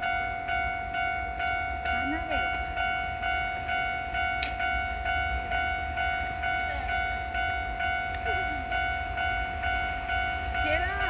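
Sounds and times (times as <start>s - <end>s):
railroad crossing alarm ringing: 0.0s - 11.0s.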